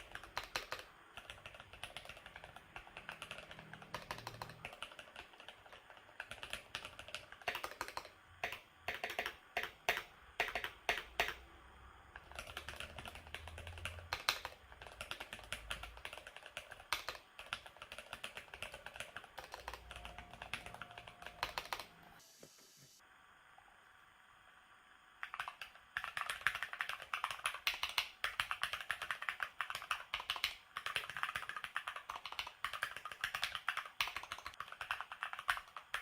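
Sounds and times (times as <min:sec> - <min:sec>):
mechanical keyboard typing: 0:00.0 - 0:11.4, 0:12.2 - 0:22.0, 0:25.2 - 0:36.0.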